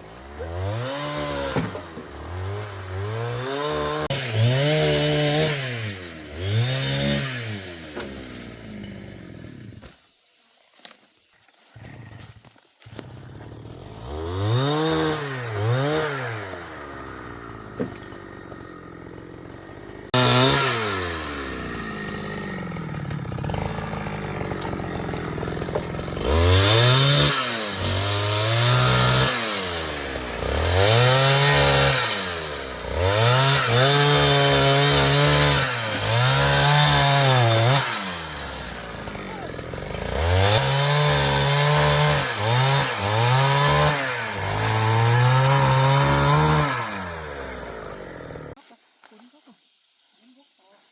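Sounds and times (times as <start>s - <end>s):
chainsaw revving: 0.0s - 9.8s, 12.9s - 48.6s.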